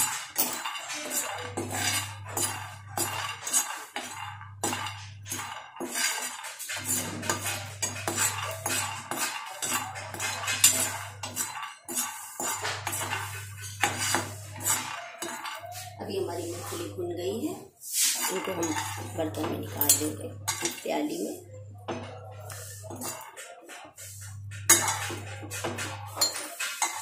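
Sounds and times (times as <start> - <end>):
peanuts rattling in pan: 0.0 - 21.4, 22.5 - 27.0
spoon scraping frying pan: 0.0 - 27.0.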